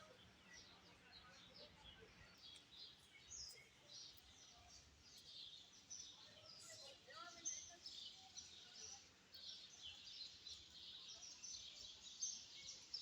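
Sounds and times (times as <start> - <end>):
low steady background noise: 0.0 - 13.0
small birds chirping: 0.0 - 13.0.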